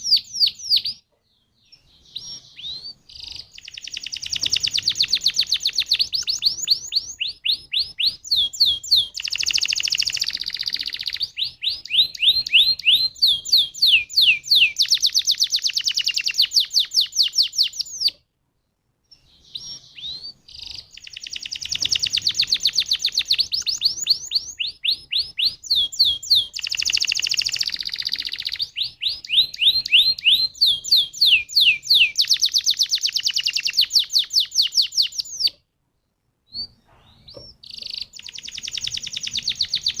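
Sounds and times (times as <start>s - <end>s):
canary singing trills: 0.0s - 18.2s, 19.1s - 35.7s, 36.5s - 40.0s.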